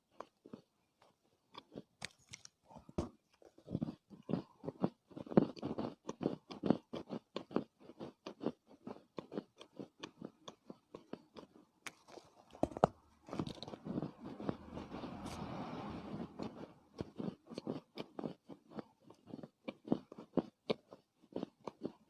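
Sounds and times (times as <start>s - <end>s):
clay earth being chewed: 0.0s - 15.4s, 16.4s - 22.0s.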